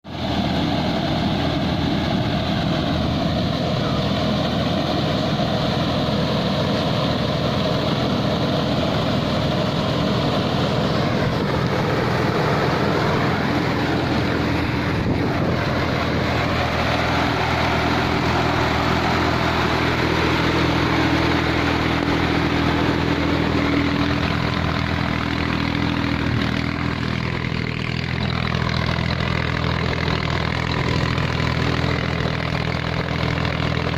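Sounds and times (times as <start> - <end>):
blower fan rush of air: 0.0 - 33.9
tractor engine running: 0.0 - 33.9.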